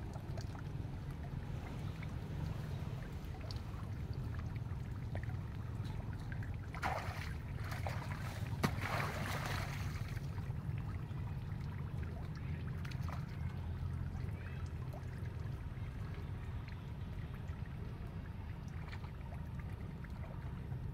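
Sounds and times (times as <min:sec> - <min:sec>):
river water splashing: 0:00.0 - 0:20.9.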